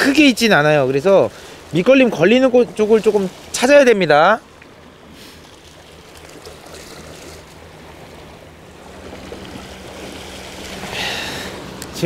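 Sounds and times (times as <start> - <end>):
sea waves washing against rocks: 0.0 - 4.5, 5.1 - 12.0.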